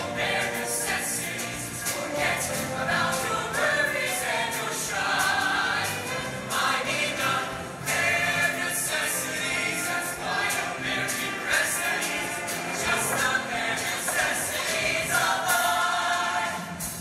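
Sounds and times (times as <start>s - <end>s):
live band playing: 0.0s - 8.2s, 9.2s - 15.8s
choir singing in harmony: 0.0s - 17.0s
steady percussion beat: 0.0s - 17.0s.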